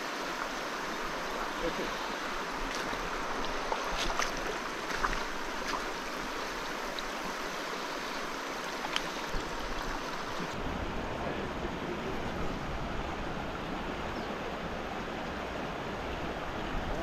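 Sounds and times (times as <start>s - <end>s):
river water rushing over stones: 0.0s - 17.0s.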